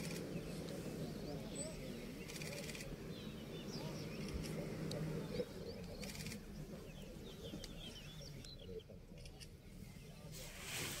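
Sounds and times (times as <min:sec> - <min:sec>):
low murmuring voices: 0:00.0 - 0:11.0
small birds chirping: 0:00.0 - 0:11.0.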